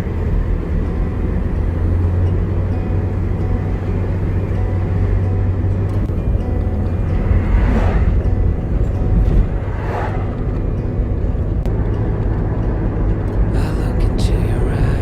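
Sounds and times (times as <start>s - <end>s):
vehicle road and engine rumble: 0.0s - 15.0s
vehicles passing: 0.0s - 15.0s.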